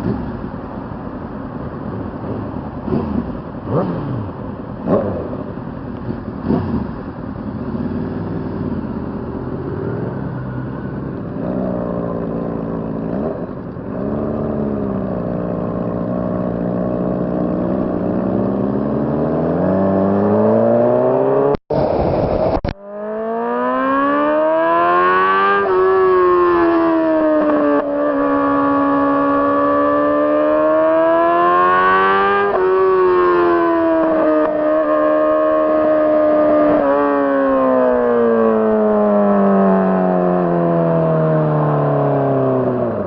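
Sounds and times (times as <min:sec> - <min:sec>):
motorcycle engine revving: 0:02.2 - 0:21.9, 0:22.5 - 0:43.0.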